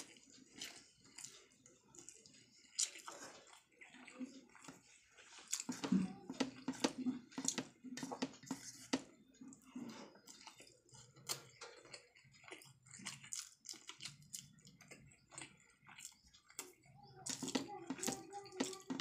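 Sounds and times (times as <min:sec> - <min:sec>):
man chewing wetly: 0:00.0 - 0:19.0.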